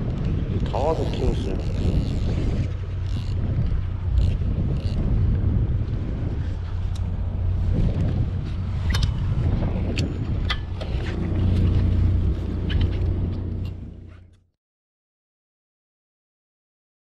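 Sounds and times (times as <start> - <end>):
boat engine droning: 0.6 - 14.4.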